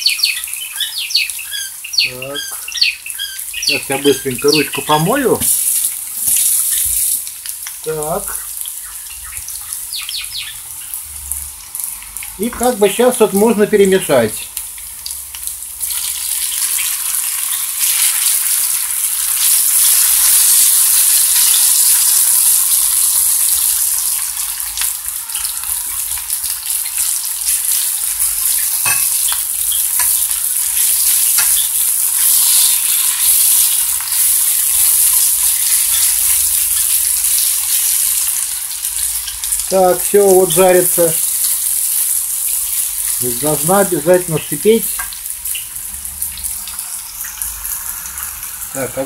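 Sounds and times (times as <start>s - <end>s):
potatoes sizzling in oil: 0.0s - 49.0s.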